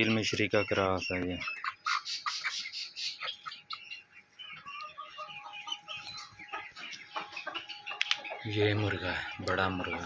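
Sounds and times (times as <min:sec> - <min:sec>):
hens clucking and chirping: 0:00.0 - 0:10.0.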